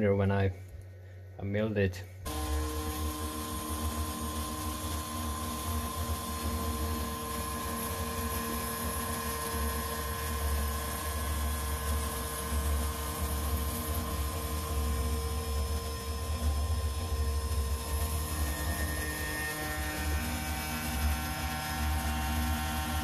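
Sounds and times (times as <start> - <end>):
cnc router spindle whine: 2.3 - 23.0
end mill cutting steel: 2.3 - 23.0.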